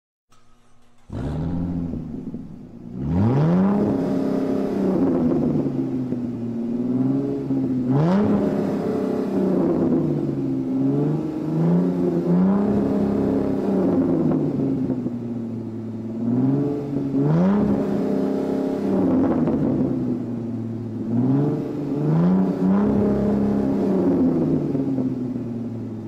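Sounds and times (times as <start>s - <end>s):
car engine idling and revving: 0.3s - 26.0s.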